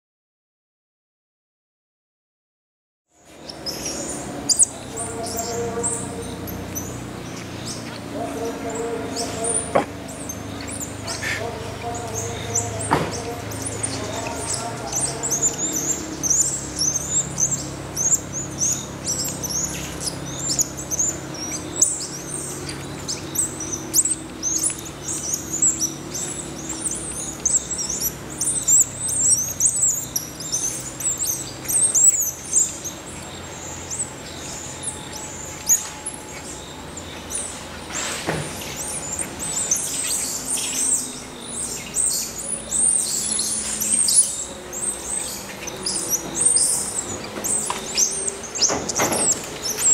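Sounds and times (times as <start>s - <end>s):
monkeys chirping: 3.2s - 49.9s.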